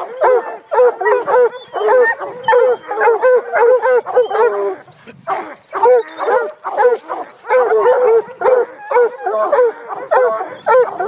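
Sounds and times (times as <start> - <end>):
hounds barking: 0.0 - 11.0.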